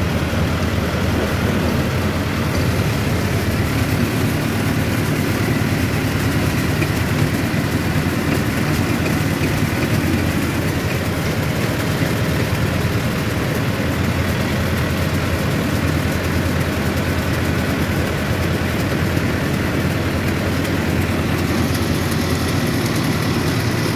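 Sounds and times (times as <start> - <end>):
tractor diesel engine running: 0.0 - 23.9.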